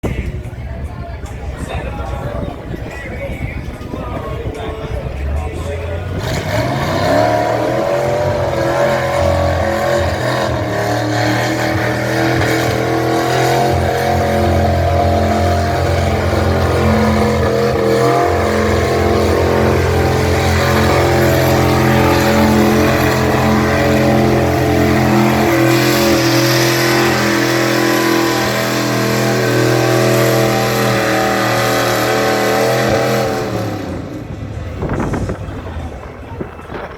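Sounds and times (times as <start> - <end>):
truck engine revving under load: 1.5 - 36.9.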